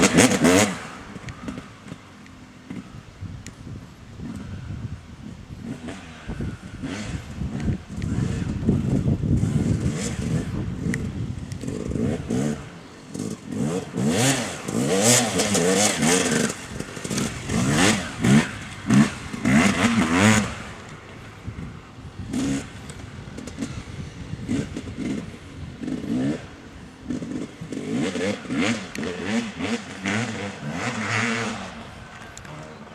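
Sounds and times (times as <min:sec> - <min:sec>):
motocross bike engine revving: 0:00.0 - 0:03.2, 0:04.1 - 0:32.9.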